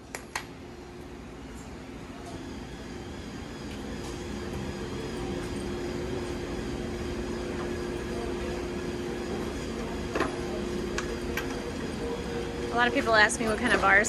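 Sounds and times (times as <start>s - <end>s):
motor droning hum: 0.5s - 13.8s.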